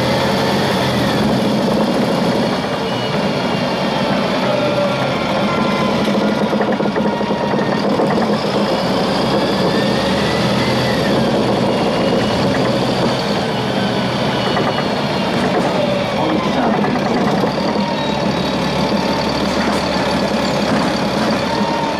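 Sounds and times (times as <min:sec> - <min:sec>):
bus engine running: 0:00.0 - 0:21.9.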